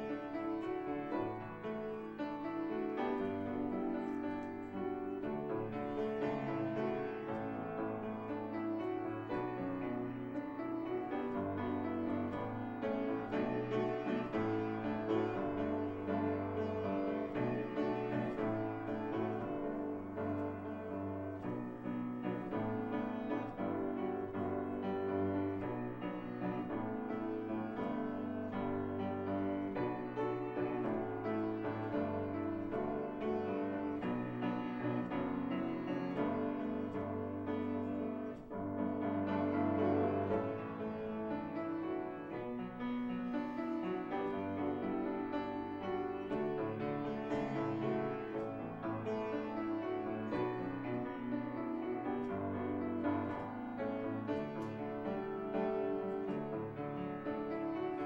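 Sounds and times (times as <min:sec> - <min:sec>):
slow keyboard chords: 0:00.0 - 0:58.0.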